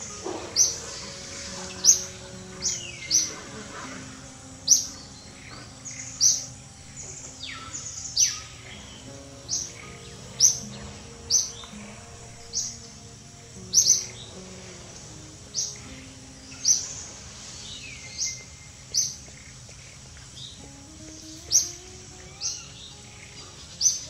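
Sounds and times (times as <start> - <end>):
bird chirping: 0.0 - 24.0
soft background music: 0.0 - 24.0.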